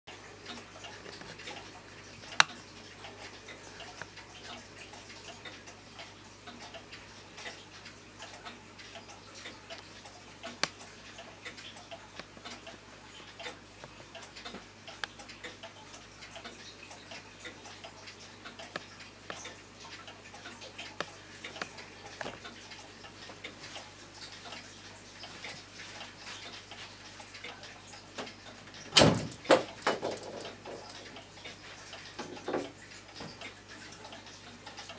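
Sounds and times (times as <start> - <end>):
clock ticking: 0.1 - 34.9.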